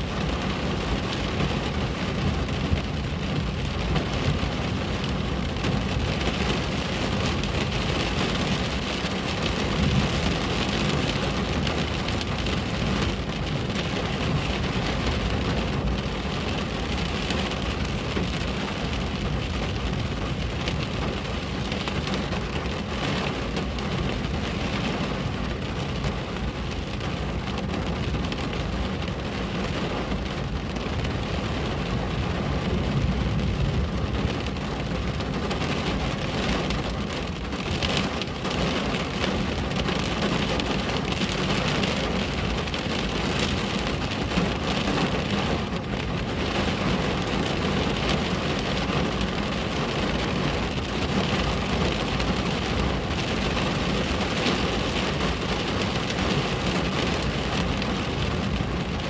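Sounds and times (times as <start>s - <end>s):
rain on a window: 0.0s - 59.0s.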